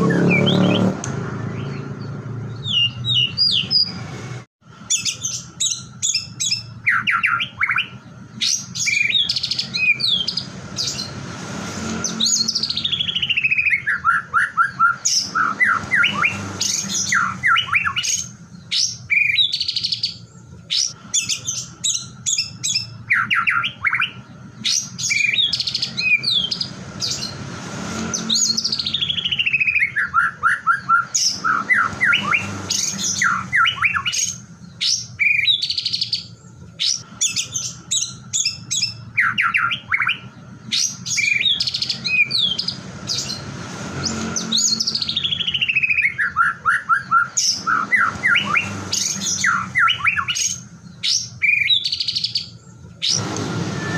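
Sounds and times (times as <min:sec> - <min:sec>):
bird singing whistles and trills: 0:00.0 - 0:04.0, 0:04.9 - 0:11.1, 0:12.0 - 0:27.4, 0:28.0 - 0:43.4, 0:44.0 - 0:53.9.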